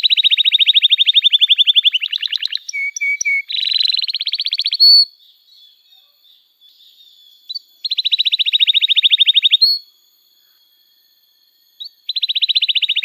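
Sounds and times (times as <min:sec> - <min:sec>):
canary singing trills: 0:00.0 - 0:09.9, 0:11.8 - 0:13.0.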